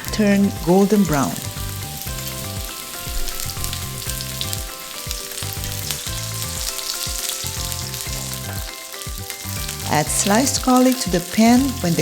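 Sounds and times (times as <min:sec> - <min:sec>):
onions sizzling in oil: 0:00.0 - 0:12.0
soft background music: 0:00.0 - 0:12.0.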